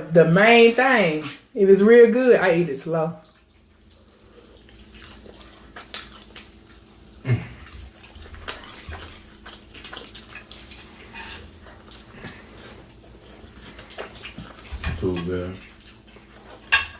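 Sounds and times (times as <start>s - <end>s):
person chewing and lip-smacking: 3.2s - 16.9s.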